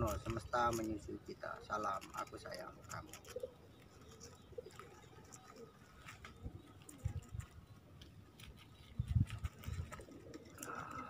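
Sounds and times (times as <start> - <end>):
birds chirping: 0.0 - 11.0
low bird calls: 0.0 - 11.0.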